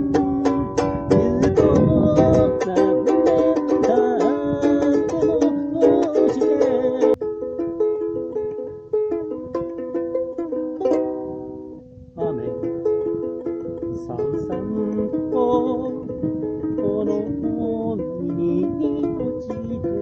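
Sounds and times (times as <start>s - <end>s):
ukulele strumming and plucking: 0.0s - 20.0s.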